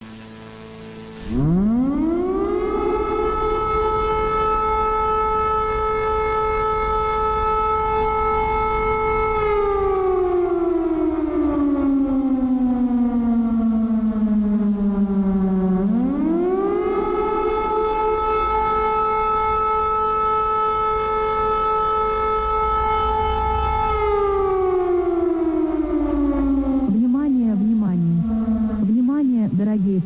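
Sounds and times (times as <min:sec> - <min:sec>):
air-raid siren wailing: 0:01.1 - 0:30.0.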